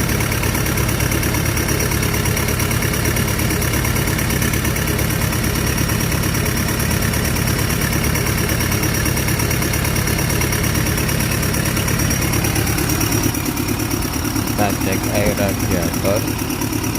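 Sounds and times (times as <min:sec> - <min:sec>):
excavator diesel engine idling: 0:00.0 - 0:16.9.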